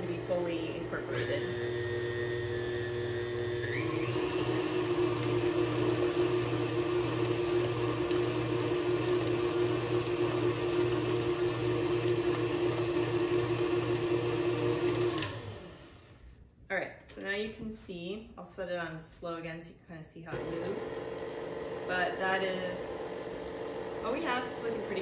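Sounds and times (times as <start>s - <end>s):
stand mixer motor whine: 0.0s - 16.1s, 20.4s - 25.0s.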